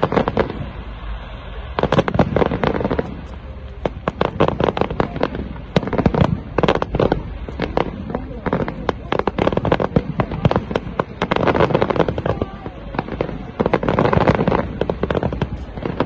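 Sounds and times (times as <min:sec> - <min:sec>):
firework crackles: 0:00.0 - 0:16.0.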